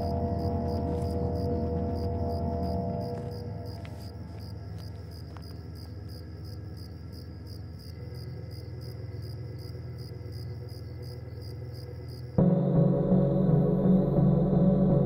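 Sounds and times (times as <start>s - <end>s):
crickets chirping: 0.0s - 12.6s
low droning music: 0.0s - 15.0s.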